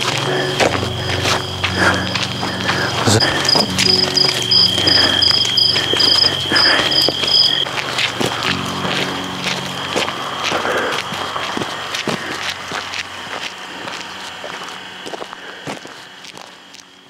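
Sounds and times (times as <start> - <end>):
low steady hum: 0.0 - 15.3
crickets trilling and chirping: 0.0 - 17.0
footsteps: 0.0 - 17.0.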